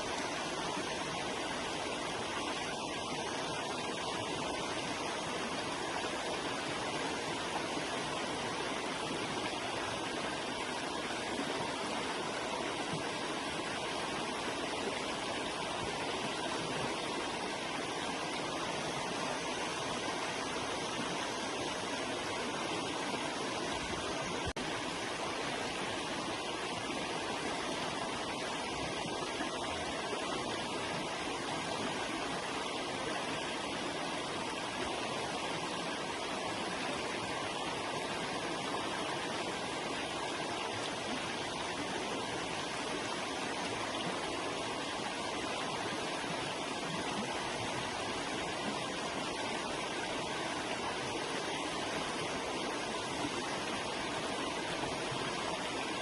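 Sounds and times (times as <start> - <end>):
river flowing over rocks: 0.0 - 56.0.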